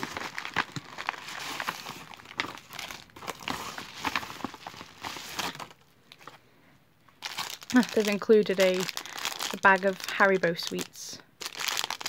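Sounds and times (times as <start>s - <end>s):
paper mailer crinkling and rustling: 0.0s - 6.4s, 7.2s - 10.9s.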